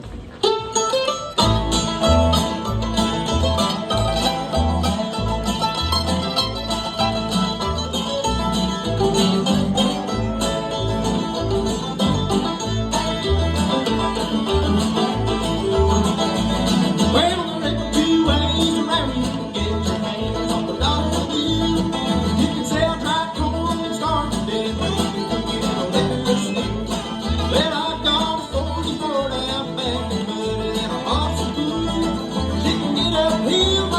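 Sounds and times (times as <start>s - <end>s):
banjo and guitar picking: 0.0s - 33.9s
bluegrass band playing: 0.0s - 33.9s
steady bass notes: 1.4s - 33.9s.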